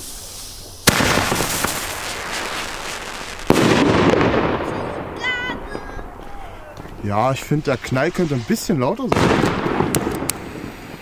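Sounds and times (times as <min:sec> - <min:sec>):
firework bursting bang: 0:00.8 - 0:11.0.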